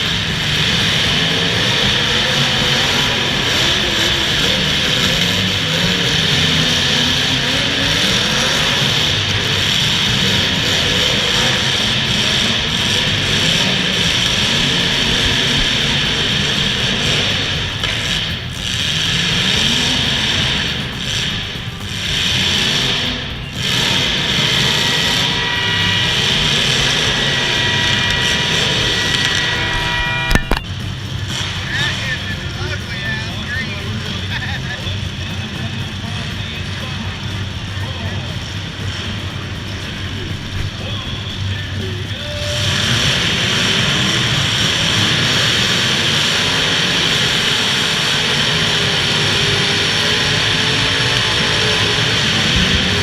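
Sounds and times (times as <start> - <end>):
loud car engines running: 0.0 - 53.0.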